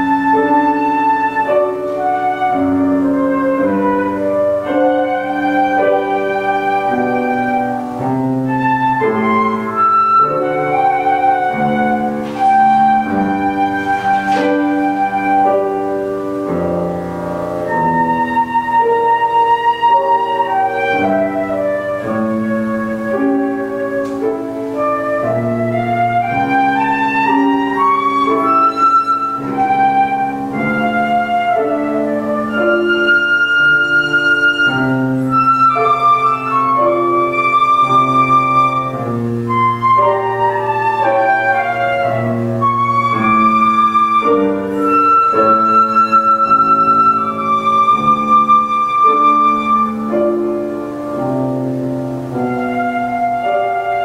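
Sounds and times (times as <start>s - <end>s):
flute melody: 0.0s - 54.0s
piano chords: 0.0s - 54.0s.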